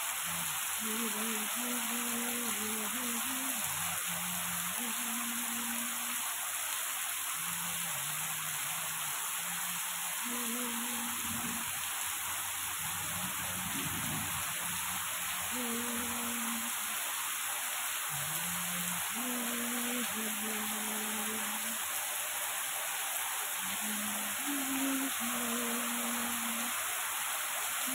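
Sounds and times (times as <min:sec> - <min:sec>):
heavy rain: 0:00.0 - 0:27.9.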